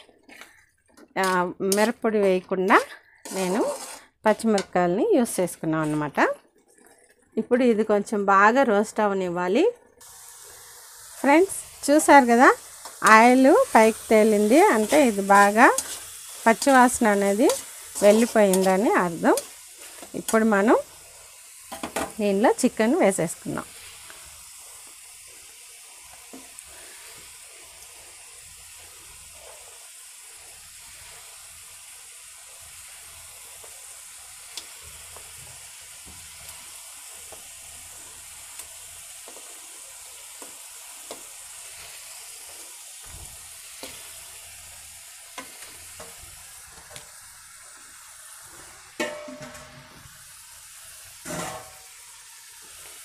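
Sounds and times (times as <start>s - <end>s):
chicken sizzling in oil: 1.2s - 6.4s, 10.0s - 53.0s.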